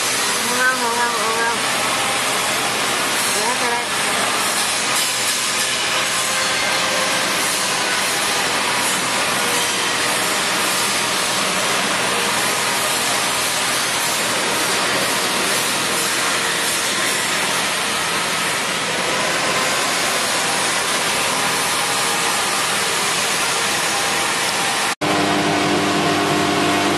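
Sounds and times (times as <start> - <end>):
vegetable cutting machine running: 0.0 - 26.9.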